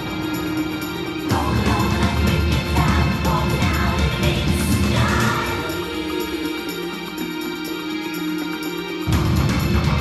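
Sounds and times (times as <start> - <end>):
music with strong bass line: 0.0 - 10.0.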